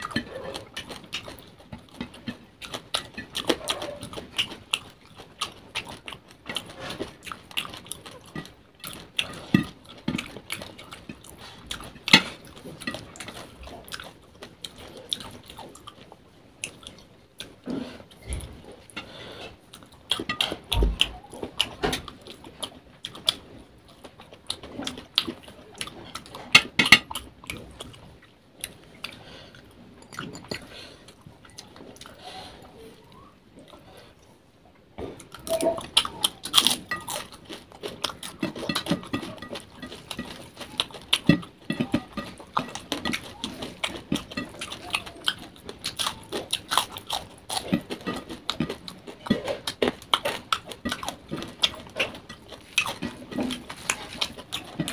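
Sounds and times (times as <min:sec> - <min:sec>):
wet chewing: 0:00.0 - 0:34.4, 0:35.0 - 0:54.9.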